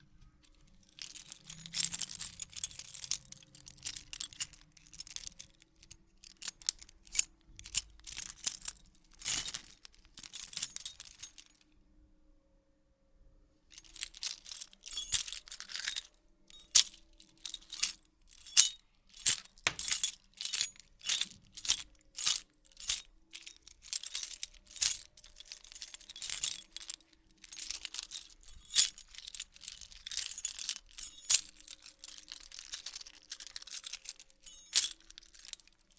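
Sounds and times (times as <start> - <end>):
keys jingling: 0.5 - 11.6, 13.8 - 35.9.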